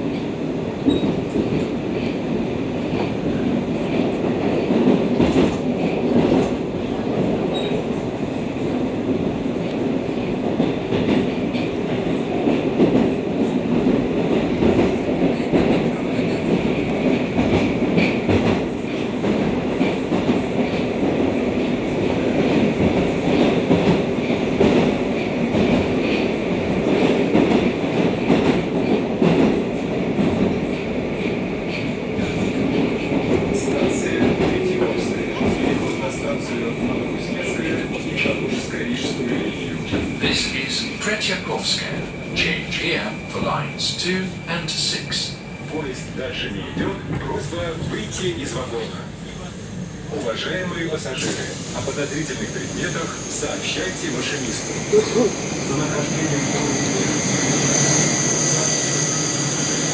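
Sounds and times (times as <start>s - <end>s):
train wheels rumbling in tunnel: 0.0s - 59.9s.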